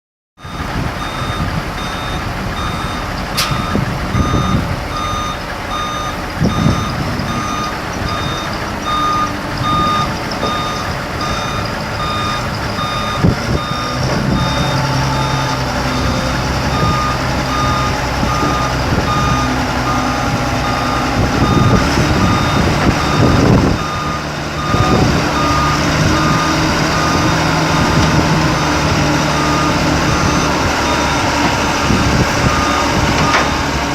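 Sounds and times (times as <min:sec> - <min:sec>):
reverse alarm beeping: 0:00.4 - 0:31.3, 0:32.4 - 0:33.6
diesel engine running: 0:00.4 - 0:33.9.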